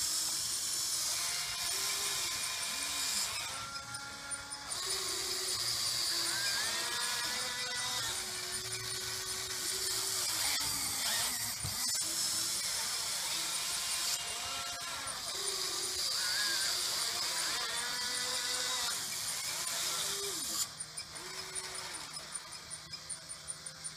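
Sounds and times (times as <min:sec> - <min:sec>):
electric motors whining: 0:00.0 - 0:23.9.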